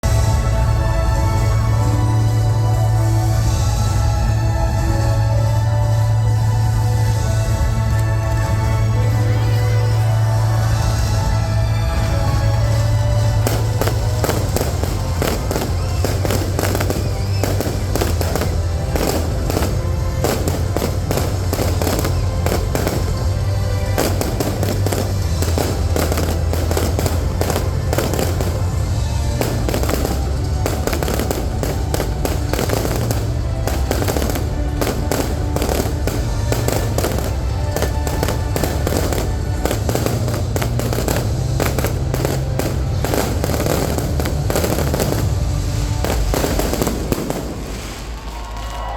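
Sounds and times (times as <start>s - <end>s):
fireworks bangs and crackles: 0.0s - 48.9s
music playing: 0.0s - 48.9s.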